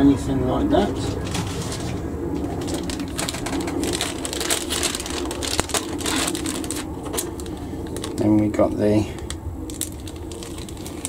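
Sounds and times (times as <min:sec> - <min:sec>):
plastic bag crinkling: 0:01.3 - 0:11.0.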